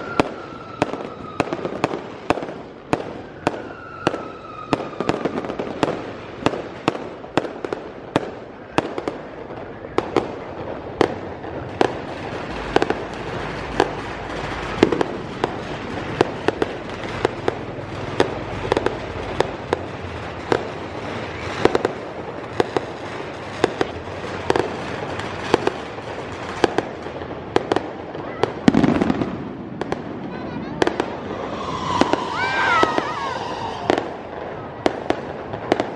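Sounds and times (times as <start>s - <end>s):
fireworks banging: 0.0s - 35.9s.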